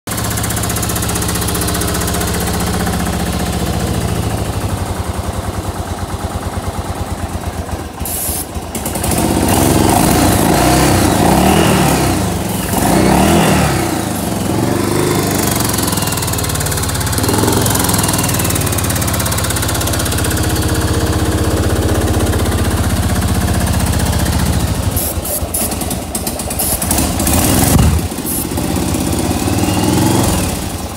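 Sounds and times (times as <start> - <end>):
motorcycle engine idling and revving: 0.1 - 30.9.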